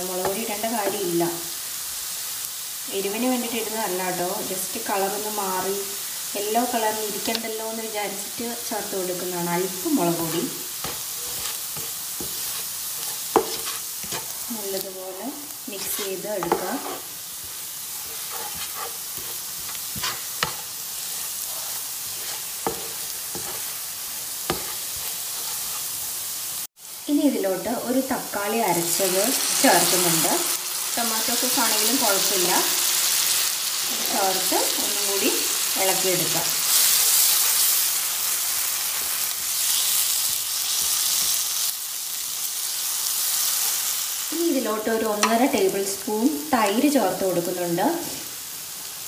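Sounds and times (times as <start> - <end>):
onions sizzling in oil: 0.0 - 49.0.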